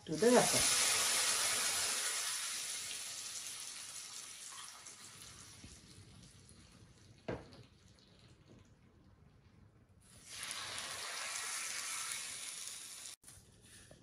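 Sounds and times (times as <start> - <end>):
hot oil sizzling: 0.0 - 8.4, 10.0 - 13.2.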